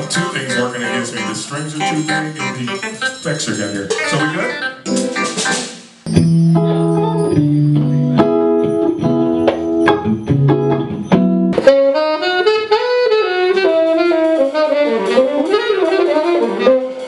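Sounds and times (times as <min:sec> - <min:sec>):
funk band playing: 0:00.0 - 0:17.0.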